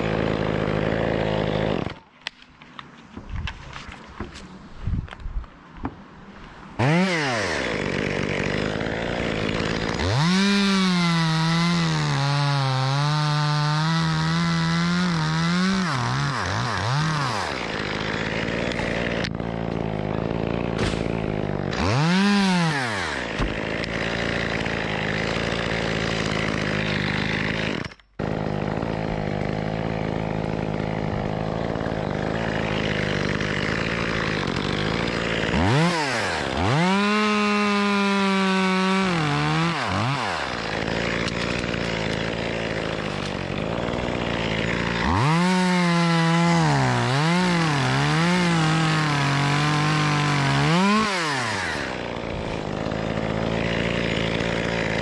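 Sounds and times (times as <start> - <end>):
chainsaw revving and cutting: 0.0 - 2.1, 6.8 - 55.0.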